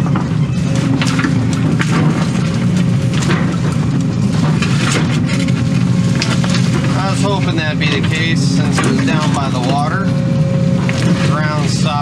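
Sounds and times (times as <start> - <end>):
excavator diesel engine running: 0.0 - 12.0
bucket cracking brush and roots: 0.6 - 10.2, 10.8 - 12.0.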